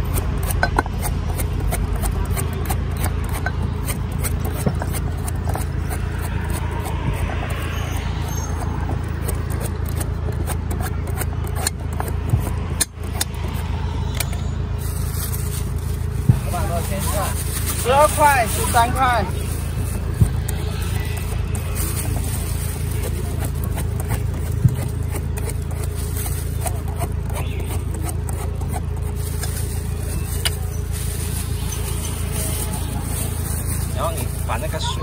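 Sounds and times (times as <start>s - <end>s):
metal blade scraping coconut husk: 0.0s - 35.0s
steady low rumble: 0.0s - 35.0s.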